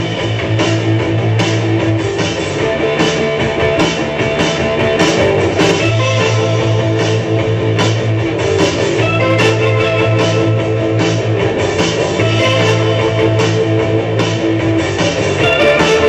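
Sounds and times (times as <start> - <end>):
rock music with guitar and drums: 0.0 - 16.0.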